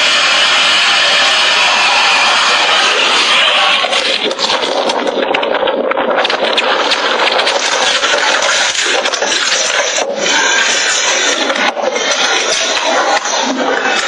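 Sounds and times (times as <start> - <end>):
fire roaring and crackling: 0.0 - 14.0.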